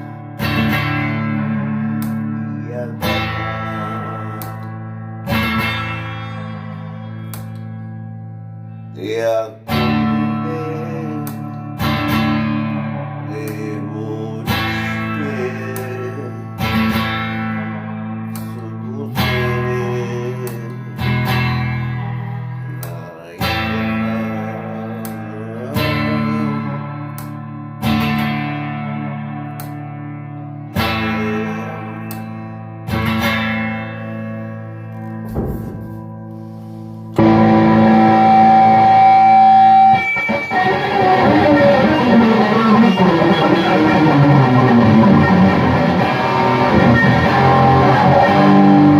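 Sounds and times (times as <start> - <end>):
guitar chords strummed: 0.0 - 48.9.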